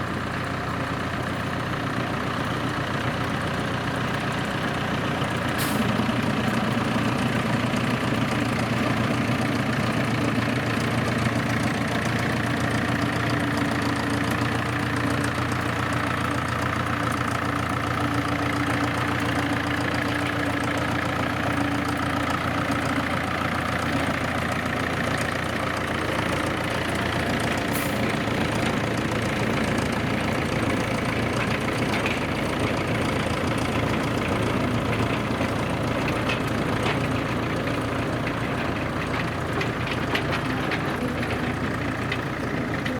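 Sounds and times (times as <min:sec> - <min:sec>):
diesel locomotive engine running: 0:00.0 - 0:42.9.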